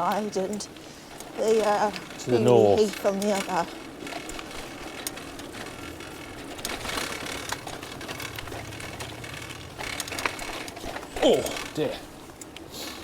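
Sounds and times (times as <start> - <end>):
bicycle freewheel ticking: 0.0 - 12.6.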